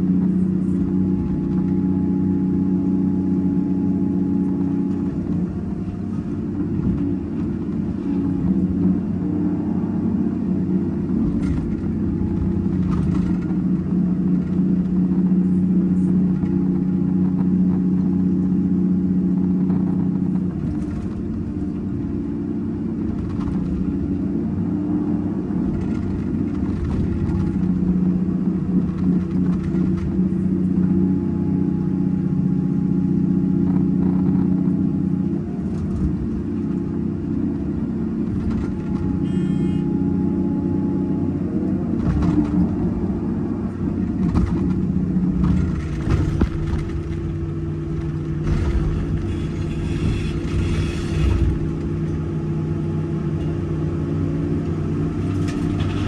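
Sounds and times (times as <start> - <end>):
excavator diesel engine and hydraulics: 0.0 - 56.0.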